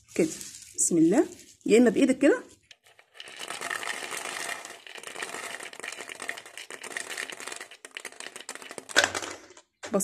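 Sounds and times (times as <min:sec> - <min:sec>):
dried beans clattering into bottle: 0:00.0 - 0:10.0.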